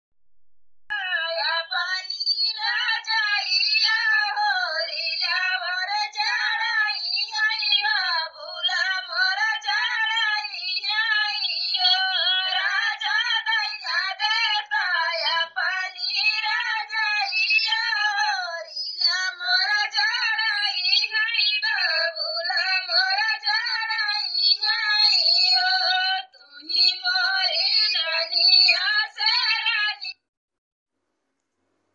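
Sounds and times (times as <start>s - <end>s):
high-pitched voice singing: 0.9s - 30.2s.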